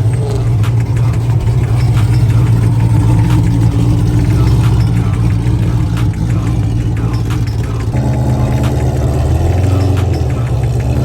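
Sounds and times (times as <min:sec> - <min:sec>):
car engine exhaust rumble: 0:00.0 - 0:11.0.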